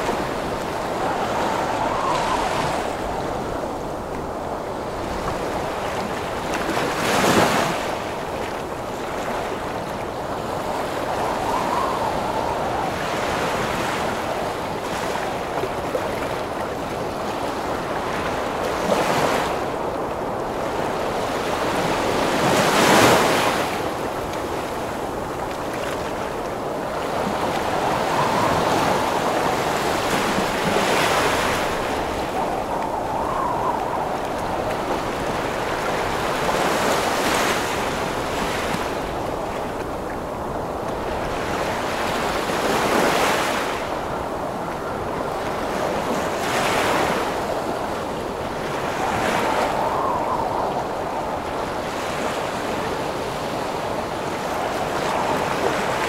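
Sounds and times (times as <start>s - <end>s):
ocean waves crashing: 0.0s - 15.6s, 20.4s - 56.0s
gusting wind: 0.0s - 56.0s.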